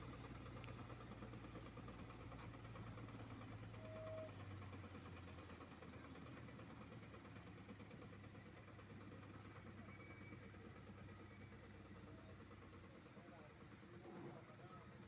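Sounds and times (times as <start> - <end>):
faint paving machinery engine hum: 0.0 - 15.0.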